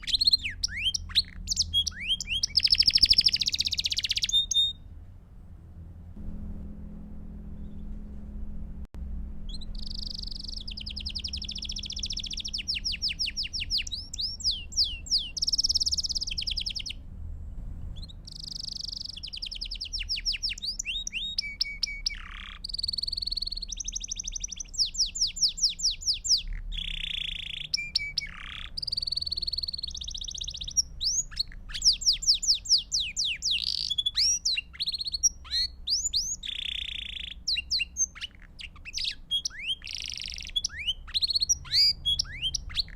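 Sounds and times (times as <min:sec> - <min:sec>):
canary singing trills: 0:00.0 - 0:04.9, 0:09.5 - 0:17.0, 0:18.0 - 0:42.9
faint low hum: 0:00.0 - 0:42.9.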